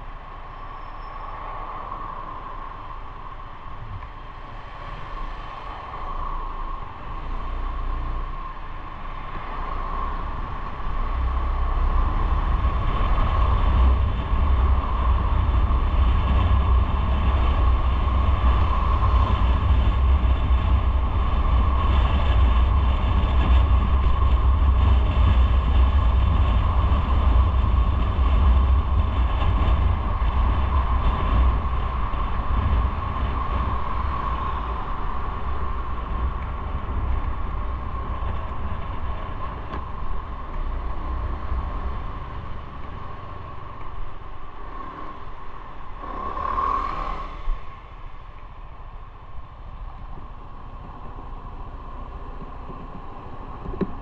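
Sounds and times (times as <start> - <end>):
road noise: 0.0 - 54.0
wind rumble on microphone: 0.0 - 54.0.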